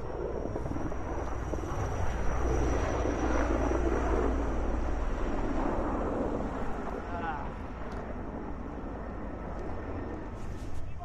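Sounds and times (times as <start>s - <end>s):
aircraft flying low overhead: 0.0s - 11.0s.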